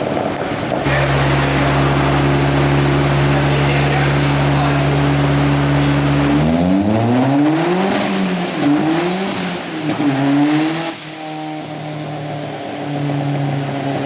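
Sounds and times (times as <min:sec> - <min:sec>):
car engine idling and revving: 0:00.0 - 0:14.0
high turbo whistle: 0:00.9 - 0:12.9.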